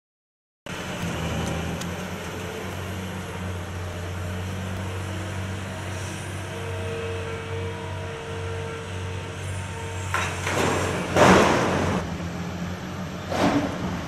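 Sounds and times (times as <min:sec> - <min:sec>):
diesel engine running: 0:00.7 - 0:14.0.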